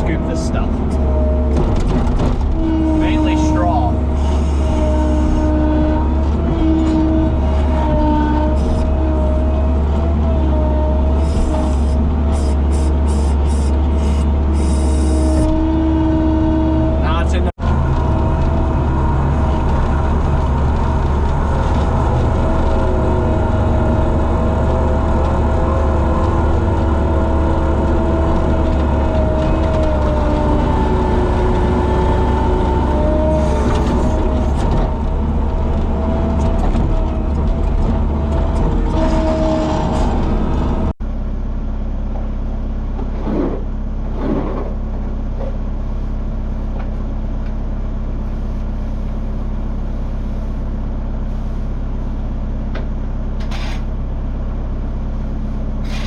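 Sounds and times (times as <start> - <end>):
skid loader engine whining: 0.0 - 56.0.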